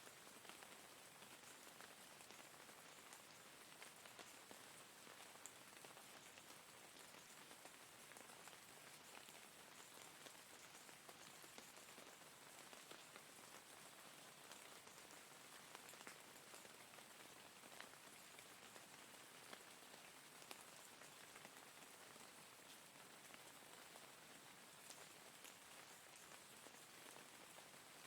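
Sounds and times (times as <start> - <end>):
soft rainfall: 0.0 - 28.0.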